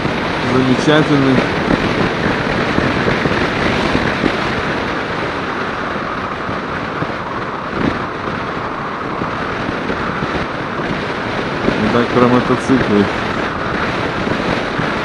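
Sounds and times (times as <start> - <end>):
motorcycle riding noise: 0.0 - 15.0
wind buffeting microphone: 0.0 - 15.0.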